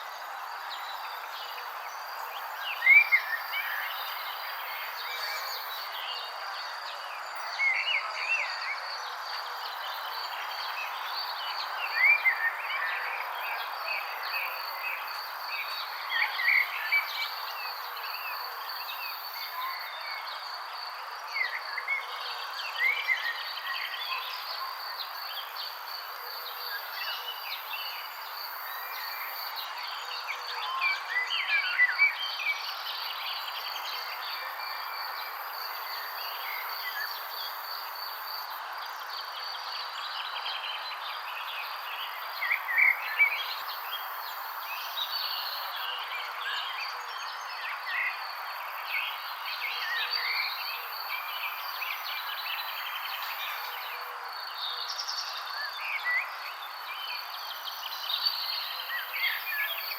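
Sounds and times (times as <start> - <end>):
soft outdoor hiss: 0.0 - 59.9
songbirds chirping: 0.0 - 59.9.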